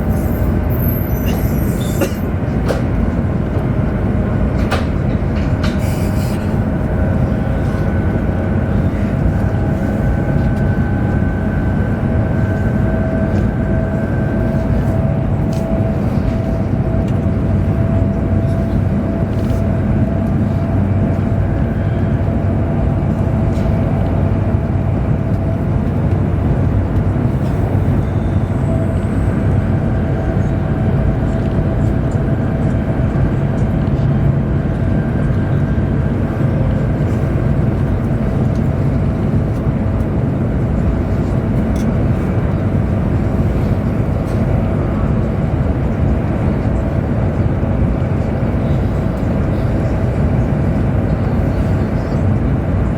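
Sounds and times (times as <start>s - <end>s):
train rumble of wheels and air: 0.0s - 52.9s.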